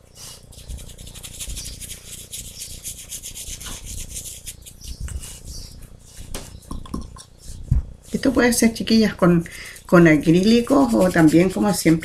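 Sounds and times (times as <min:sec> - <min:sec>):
paintbrush scrubbing on plaster: 0:00.0 - 0:12.0.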